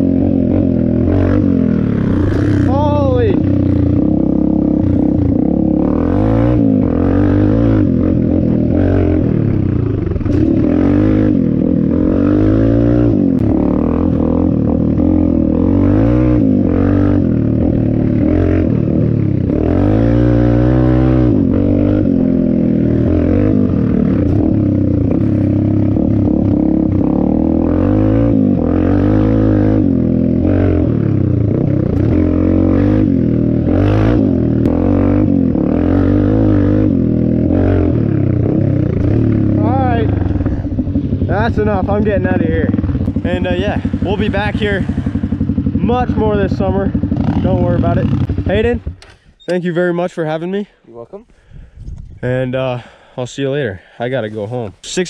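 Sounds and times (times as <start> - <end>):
dirt bike engine revving: 0.0 - 50.3.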